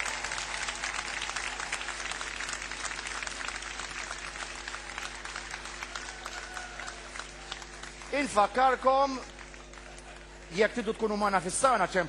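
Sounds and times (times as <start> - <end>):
large crowd applauding: 0.0 - 11.2.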